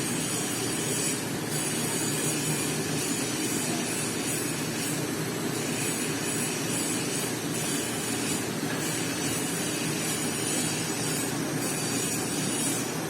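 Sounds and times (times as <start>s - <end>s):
welding arc hissing and buzzing: 0.0s - 13.0s.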